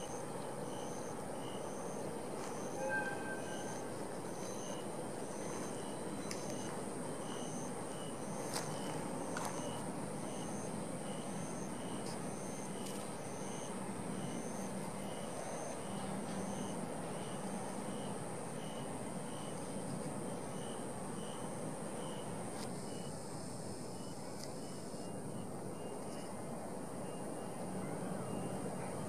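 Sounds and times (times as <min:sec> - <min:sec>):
high-pitched insect trill: 0:00.0 - 0:26.4
insects chirping: 0:00.0 - 0:29.0
steady background hiss: 0:00.0 - 0:29.0.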